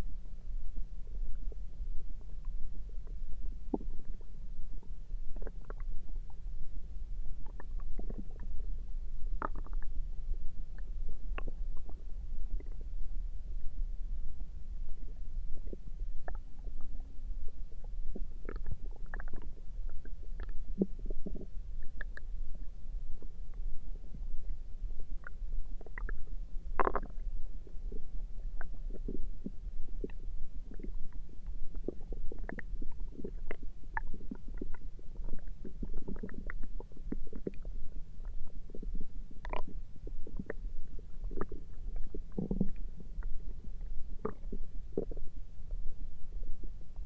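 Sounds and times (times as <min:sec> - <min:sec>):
stomach gurgling: 0:00.0 - 0:06.6, 0:07.3 - 0:47.0
steady low hum: 0:00.0 - 0:47.0.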